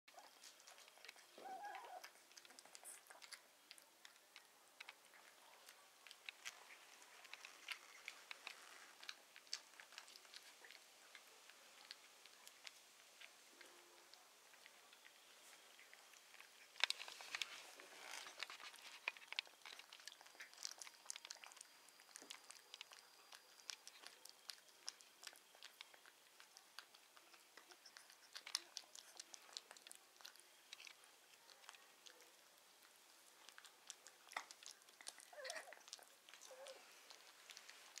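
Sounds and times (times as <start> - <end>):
puppy chewing food: 0.1 - 38.0.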